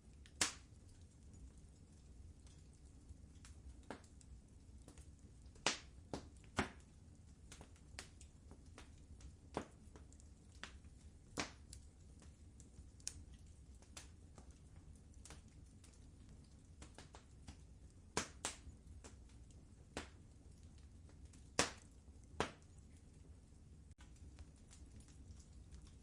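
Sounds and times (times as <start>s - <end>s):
low rumble of flames: 0.0s - 26.0s
wood fire pops and snaps: 0.0s - 26.0s.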